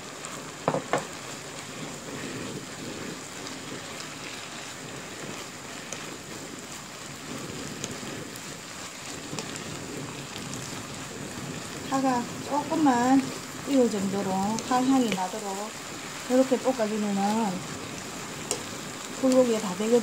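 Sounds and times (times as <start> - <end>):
food sizzling in a frying pan: 0.0 - 20.0
spatula stirring: 0.3 - 20.0.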